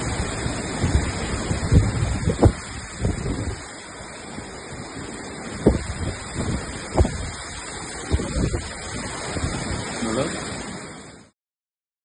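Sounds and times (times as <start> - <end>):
hurricane wind: 0.0 - 11.3
rain: 0.0 - 11.4.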